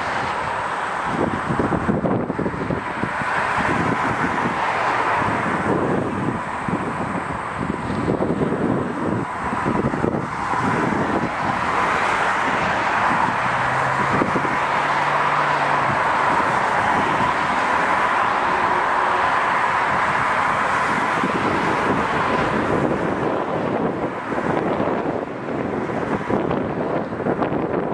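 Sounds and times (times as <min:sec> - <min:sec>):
diesel locomotive drone: 0:00.0 - 0:27.9
wind buffeting microphone: 0:00.0 - 0:27.9.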